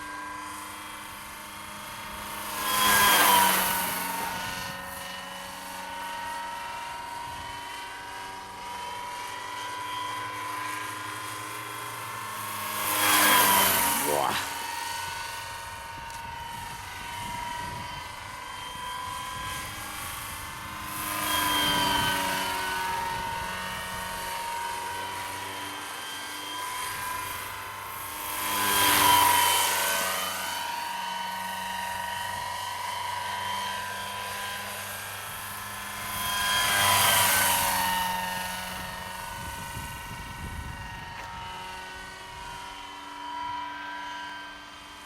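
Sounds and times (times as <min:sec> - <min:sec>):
helicopter rotor noise: 0:00.0 - 0:45.0
model helicopter motor whine: 0:00.0 - 0:45.0.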